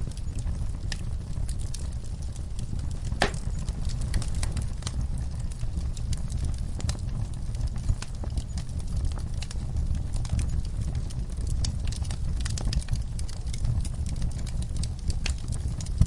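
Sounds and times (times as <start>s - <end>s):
fire crackling: 0.0s - 16.0s
fire popping and snapping: 0.0s - 16.0s.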